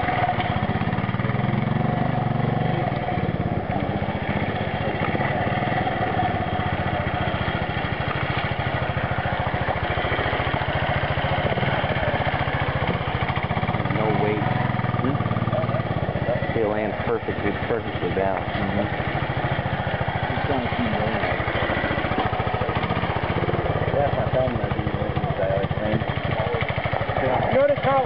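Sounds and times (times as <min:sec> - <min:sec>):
motorcycle engine putter: 0:00.0 - 0:28.0.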